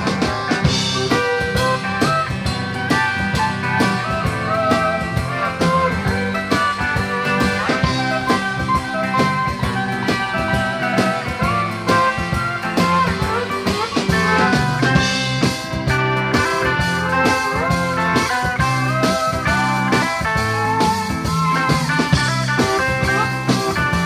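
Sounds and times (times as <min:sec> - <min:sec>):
bass: 0:00.0 - 0:24.0
slide guitar lead: 0:00.0 - 0:24.0
steady drum beat: 0:00.0 - 0:24.0.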